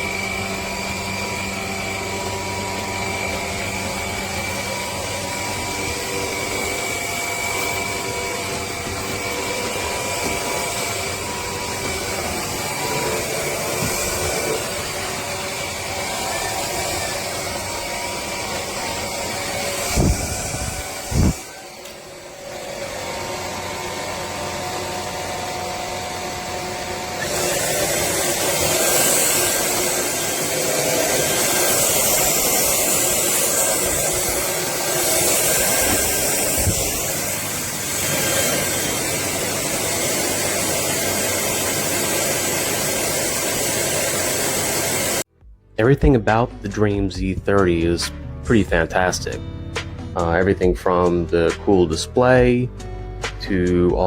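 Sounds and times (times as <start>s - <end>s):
stick vacuum motor whining: 0.0s - 45.3s.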